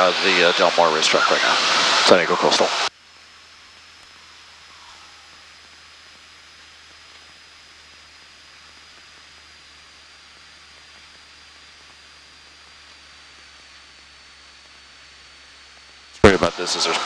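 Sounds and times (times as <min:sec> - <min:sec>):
cockpit audio hiss: 0:00.0 - 0:17.0
thin high whine: 0:00.0 - 0:17.0.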